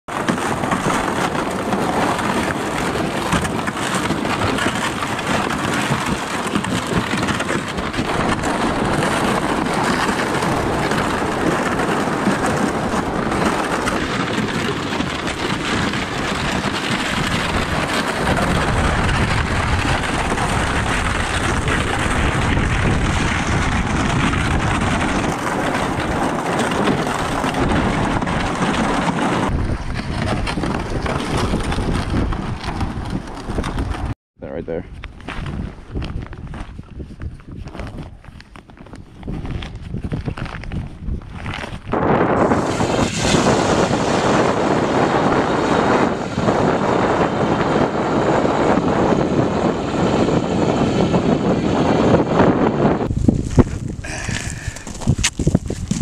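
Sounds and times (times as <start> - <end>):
wind rumble on microphone: 0.0 - 56.0
sled scraping over snow: 0.1 - 34.2, 34.9 - 56.0.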